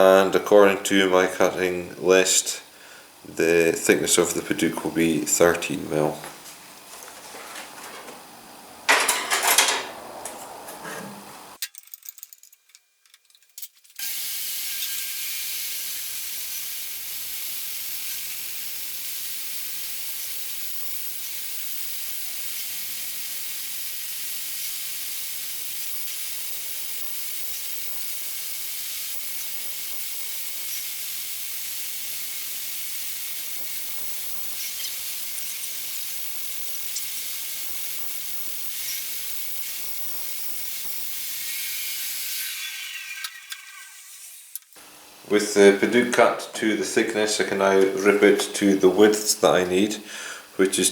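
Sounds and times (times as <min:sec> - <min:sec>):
woodworking machine hissing: 0:00.0 - 0:06.7, 0:08.2 - 0:11.6, 0:14.0 - 0:50.9.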